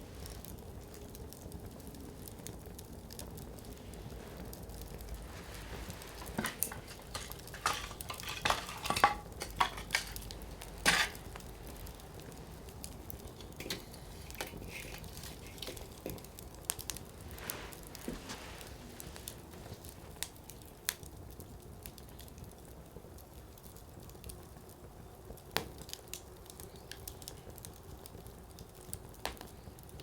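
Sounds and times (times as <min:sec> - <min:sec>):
campfire crackling and popping: 0:00.0 - 0:30.0
low fire hiss: 0:00.0 - 0:30.0.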